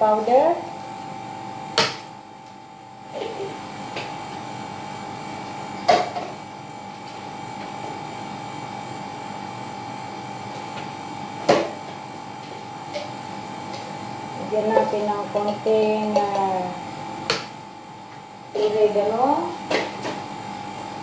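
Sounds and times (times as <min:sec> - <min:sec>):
steady high-pitched hum: 0:00.0 - 0:21.0.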